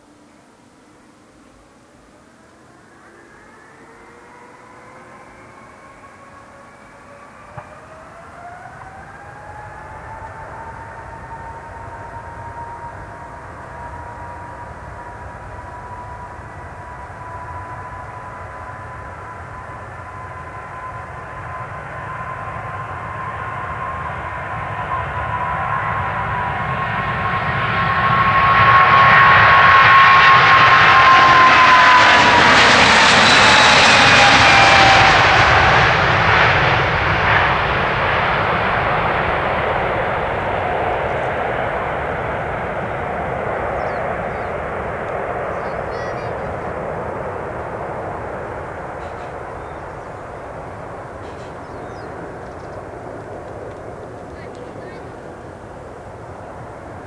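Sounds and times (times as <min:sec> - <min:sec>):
jet engine roar: 0:00.0 - 0:57.0
jet engine whine: 0:00.0 - 0:57.0.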